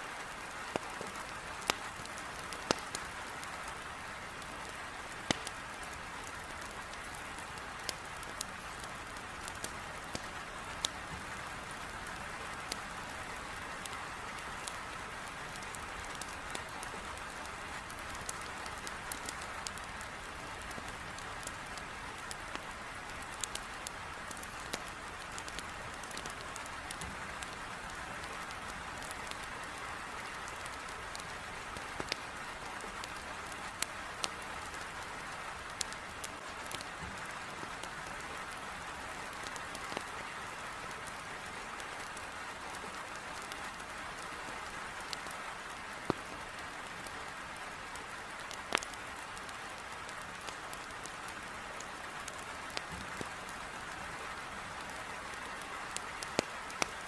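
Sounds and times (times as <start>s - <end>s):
heavy rain on a window: 0.1s - 57.0s
wood fire crackling: 0.2s - 57.0s.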